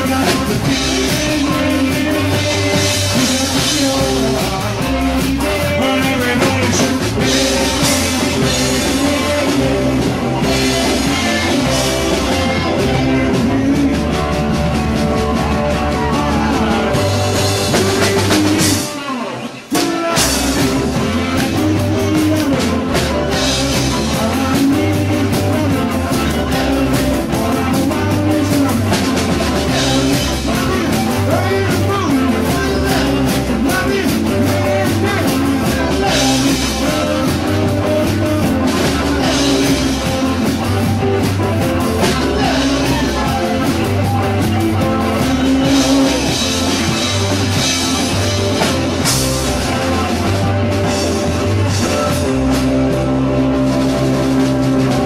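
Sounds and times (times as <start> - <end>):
bass guitar: 0.0 - 55.0
drum kit with crashing cymbals: 0.0 - 55.0
electric guitars: 0.0 - 55.0.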